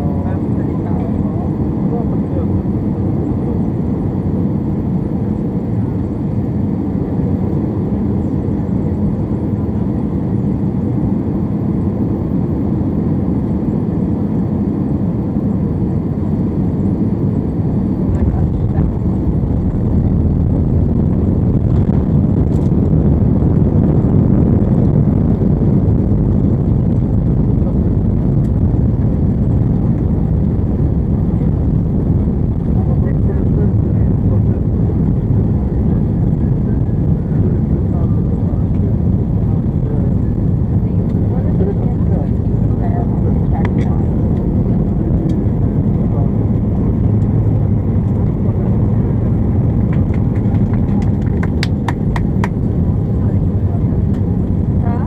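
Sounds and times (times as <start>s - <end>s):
airliner cabin engine and airflow noise: 0.0s - 55.0s.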